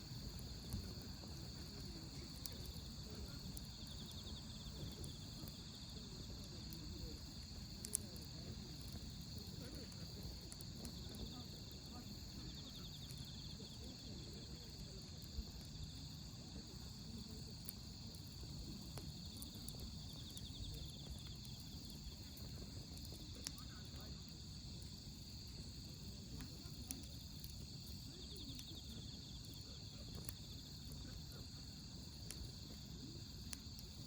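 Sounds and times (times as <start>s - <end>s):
campfire crackling and popping: 0.0s - 34.0s
insects trilling: 0.0s - 34.0s.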